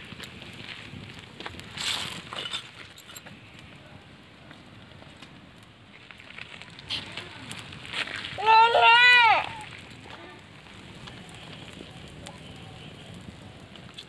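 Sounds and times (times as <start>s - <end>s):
fire of sticks crackling: 0.0s - 14.0s.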